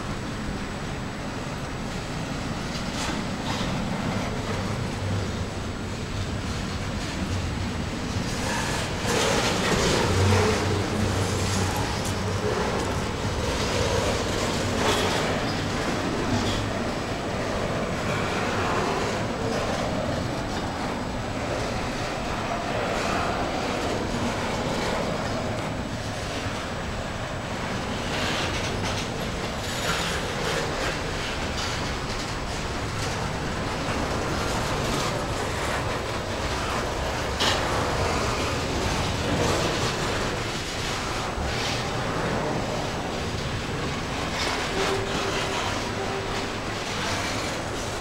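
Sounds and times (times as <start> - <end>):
steel wheels on rail: 0.0 - 48.0.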